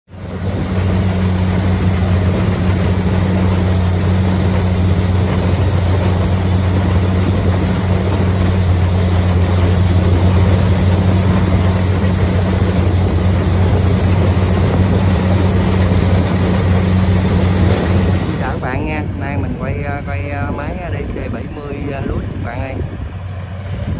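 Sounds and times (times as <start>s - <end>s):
combine harvester droning: 0.1s - 23.9s.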